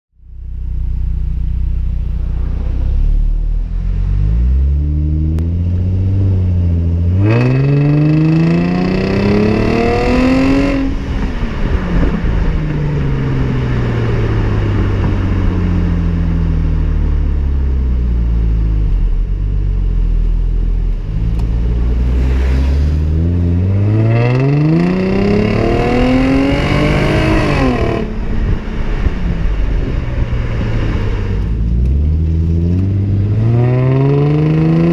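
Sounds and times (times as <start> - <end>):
car engine idling and revving: 0.1 - 34.9.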